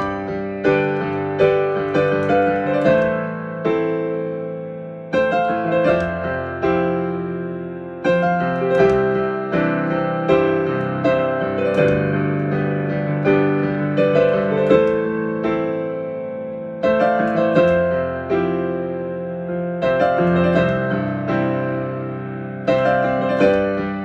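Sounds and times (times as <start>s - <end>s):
piano chords ringing: 0.0s - 24.0s.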